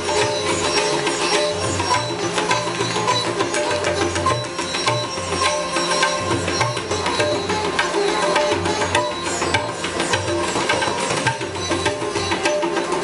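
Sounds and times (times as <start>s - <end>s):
plucked sitar melody: 0.0s - 13.0s
tabla drumming: 0.0s - 13.0s.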